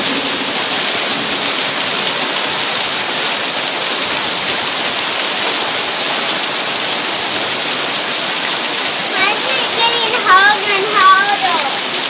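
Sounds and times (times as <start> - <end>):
hail and rain falling hard: 0.0 - 12.0.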